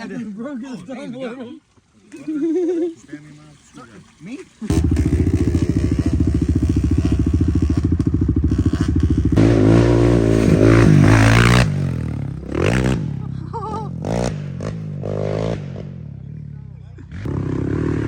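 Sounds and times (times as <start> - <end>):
atv engine revving: 2.2 - 18.0.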